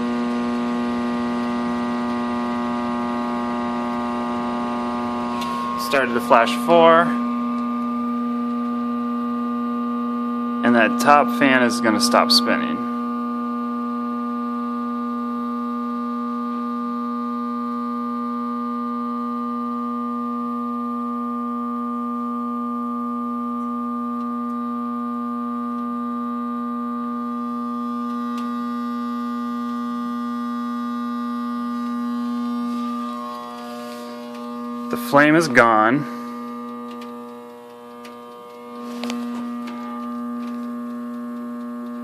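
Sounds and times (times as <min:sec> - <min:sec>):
furnace droning hum: 0:00.0 - 0:42.0.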